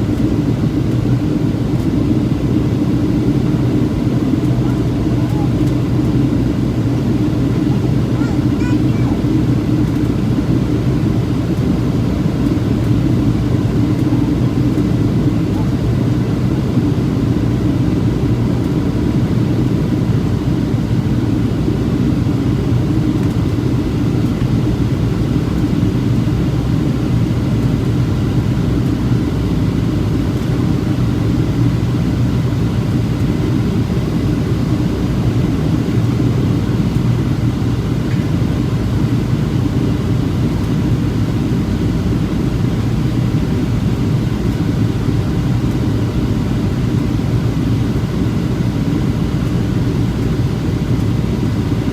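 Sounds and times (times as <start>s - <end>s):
airplane cabin rumble: 0.0s - 51.9s.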